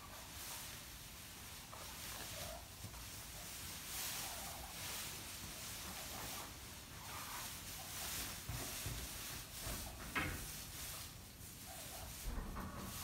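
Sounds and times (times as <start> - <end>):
calves shuffling in straw: 0.0 - 13.0.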